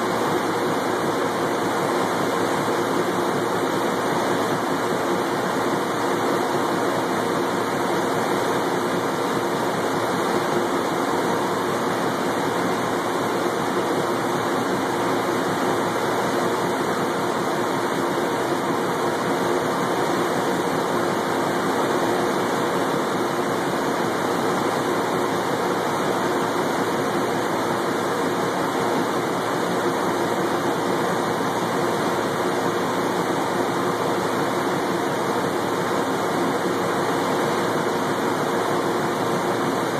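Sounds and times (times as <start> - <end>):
rushing air from blowers: 0.0 - 39.9.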